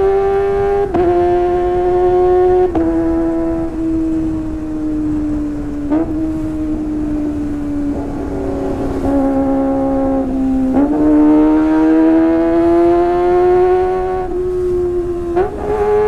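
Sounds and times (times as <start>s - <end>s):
motorcycle engine howling at high revs: 0.0s - 16.0s.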